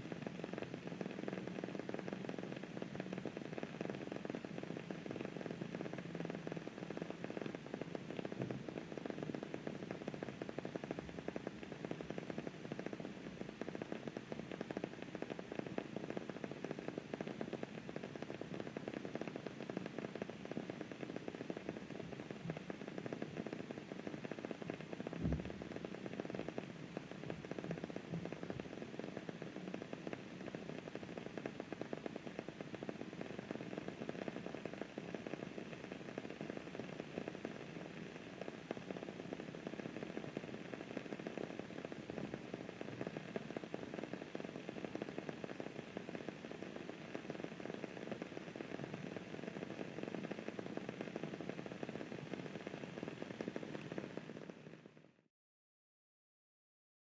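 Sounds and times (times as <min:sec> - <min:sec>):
dense crackling over hiss: 0:00.0 - 0:55.2.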